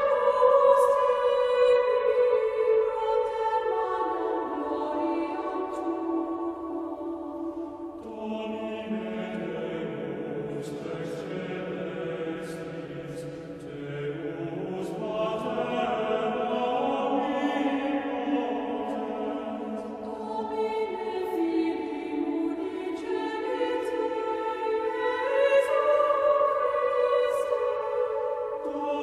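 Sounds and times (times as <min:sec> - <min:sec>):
choir singing slow chant: 0:00.0 - 0:29.0.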